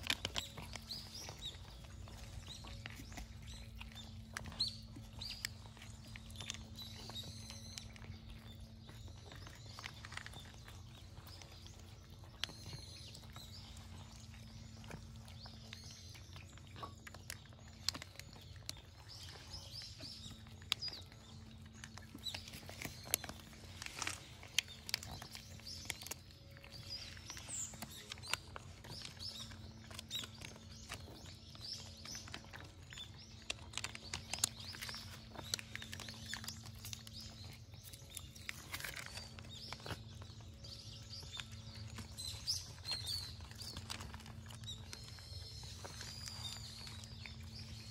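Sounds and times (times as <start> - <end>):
birds chirping: 0.0 - 47.9
cats crunching dry food: 0.0 - 47.9.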